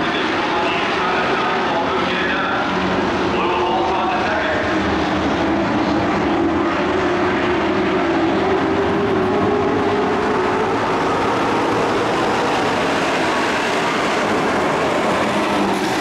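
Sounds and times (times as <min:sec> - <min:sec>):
race truck engines droning: 0:00.0 - 0:16.0.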